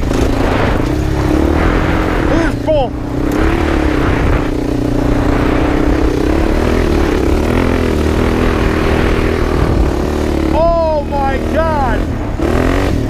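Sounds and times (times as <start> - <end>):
quad bike engine running: 0.0 - 13.0
wind rumbling on microphone: 0.0 - 13.0.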